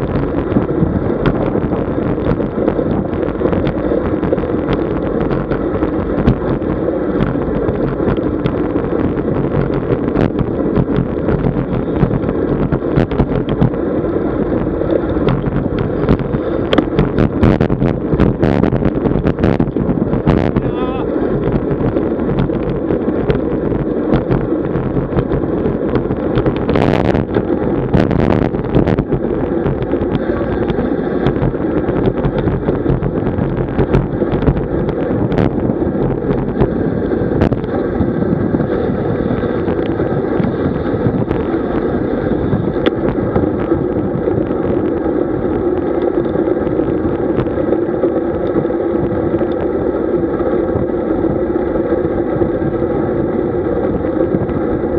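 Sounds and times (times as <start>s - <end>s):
bicycle road noise: 0.0s - 54.9s
wind rushing over microphone: 0.0s - 54.9s.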